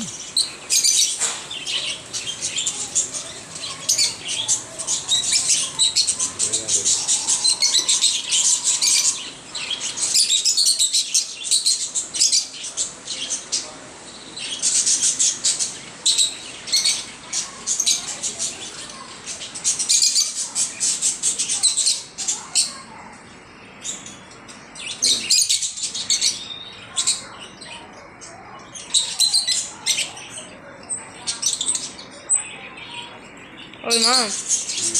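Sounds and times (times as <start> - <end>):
lovebirds chirping: 0.0 - 34.9.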